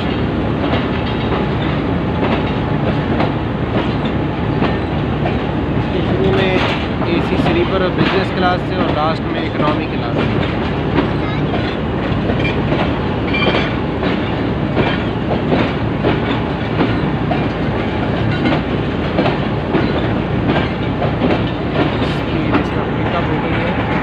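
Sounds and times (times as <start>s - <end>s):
train rumble: 0.0s - 24.0s
wheels clacking over rail joints: 0.0s - 24.0s.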